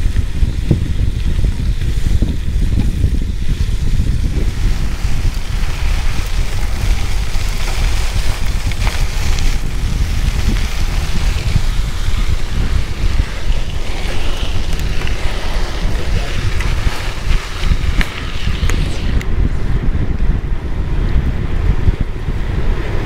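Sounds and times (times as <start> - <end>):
tyres rolling over gravel: 0.0 - 19.2
wind buffeting microphone: 0.0 - 23.0.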